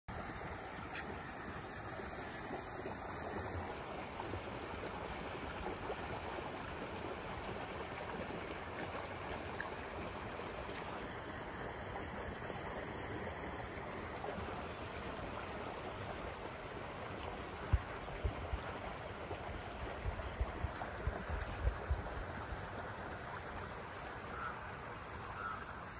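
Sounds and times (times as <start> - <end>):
floodwater rushing: 0.1 - 25.9.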